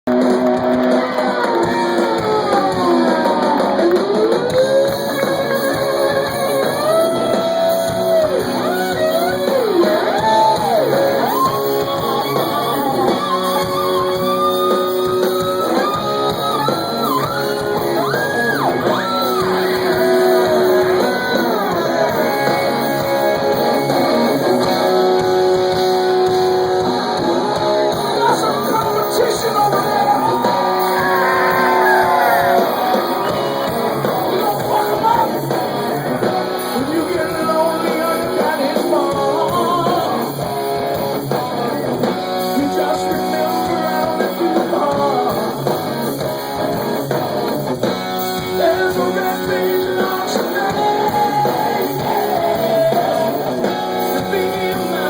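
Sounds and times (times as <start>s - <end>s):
live rock music: 0.0s - 55.0s
electric slide guitar: 0.1s - 55.0s.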